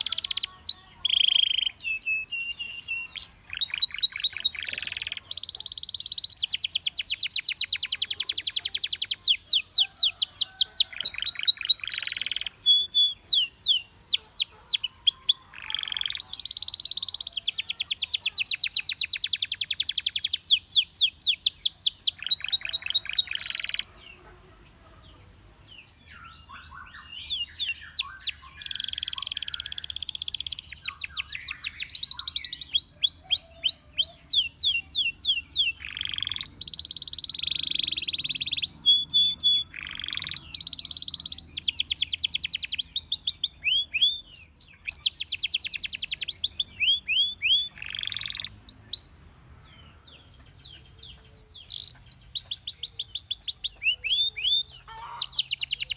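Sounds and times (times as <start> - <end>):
canary singing trills: 0.0 - 55.9.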